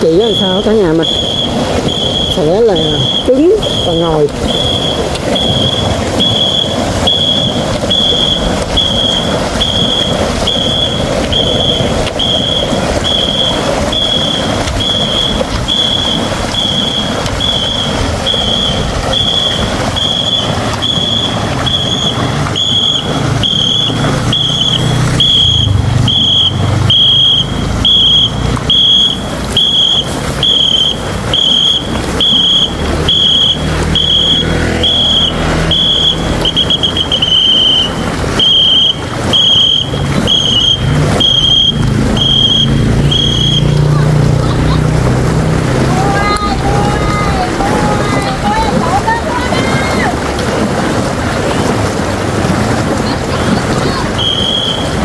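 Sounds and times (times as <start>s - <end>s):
paddles splashing water: 0.0s - 55.0s
whistle short high blasts: 0.1s - 44.0s, 54.1s - 55.0s.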